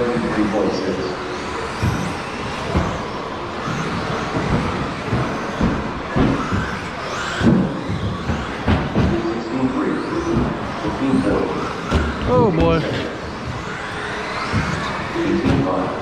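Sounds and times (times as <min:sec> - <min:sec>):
cars knocking against boards: 0:00.0 - 0:16.0
rc car motors whining: 0:00.0 - 0:16.0.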